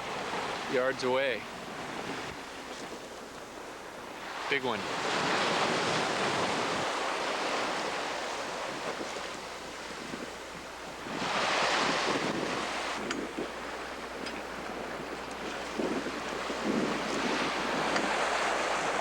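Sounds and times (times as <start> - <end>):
sea water rushing past yacht: 0.0 - 19.0
wind buffeting microphone: 0.0 - 19.0.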